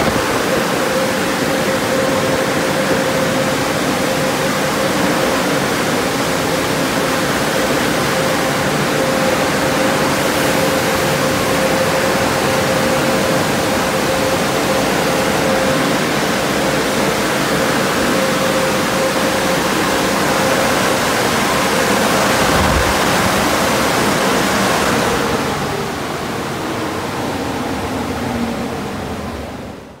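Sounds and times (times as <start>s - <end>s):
car wash rushing noise: 0.0s - 29.9s
mid-pitched machine whine: 0.0s - 30.0s.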